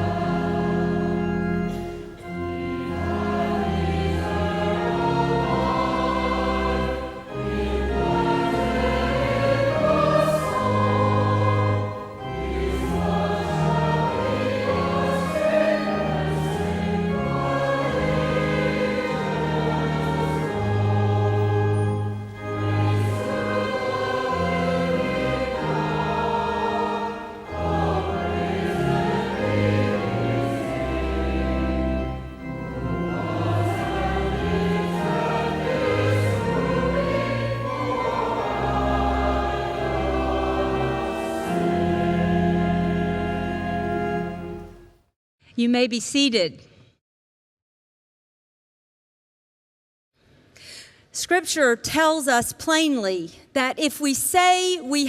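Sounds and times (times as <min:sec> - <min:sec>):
choir singing a hymn: 0:00.0 - 0:44.7.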